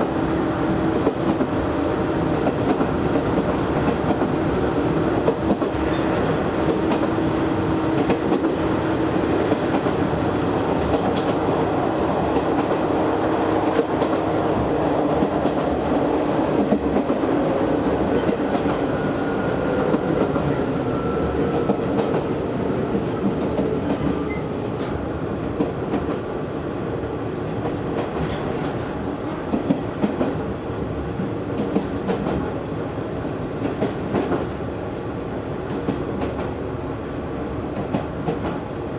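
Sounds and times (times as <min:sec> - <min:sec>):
train rolling rumble: 0:00.0 - 0:38.9.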